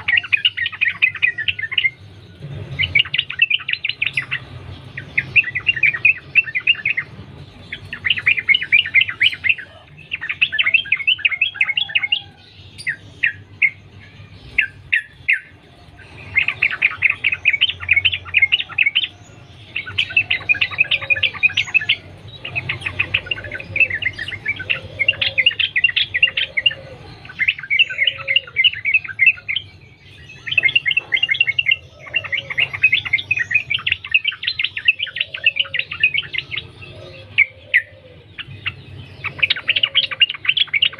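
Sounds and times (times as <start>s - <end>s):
bulbul rapid chattering song: 0.0s - 40.9s.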